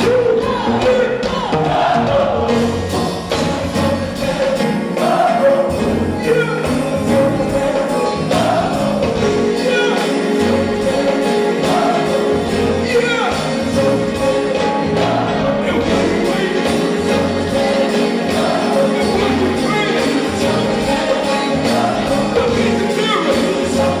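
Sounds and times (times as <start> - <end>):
choir singing: 0.0 - 24.0
live gospel band: 0.0 - 24.0.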